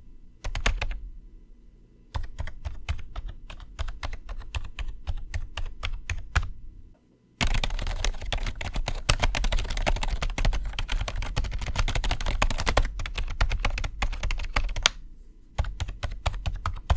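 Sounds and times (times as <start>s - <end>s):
keyboard keys clicking: 0.4s - 1.0s, 2.1s - 6.6s, 7.4s - 15.0s, 15.6s - 16.9s.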